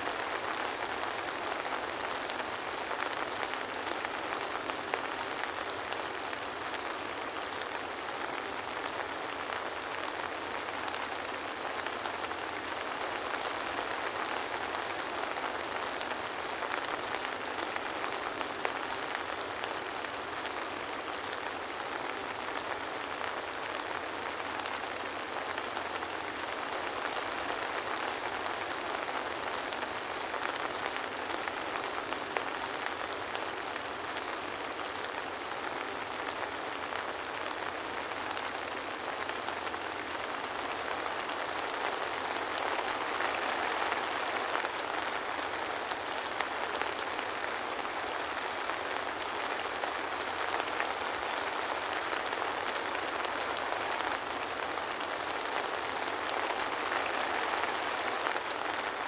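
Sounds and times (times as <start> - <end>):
soft rain pattering: 0.0 - 59.0.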